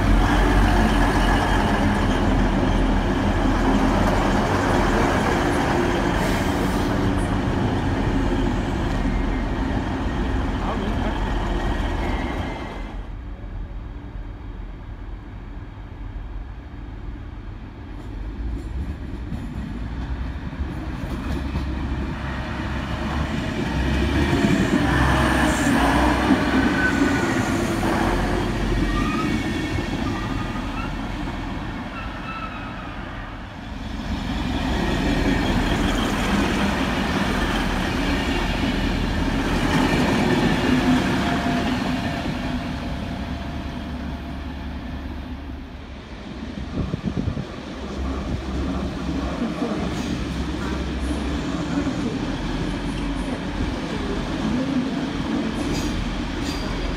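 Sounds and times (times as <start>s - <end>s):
diesel train engine pulling out: 0.0s - 56.9s
train passing rumble: 0.0s - 56.9s.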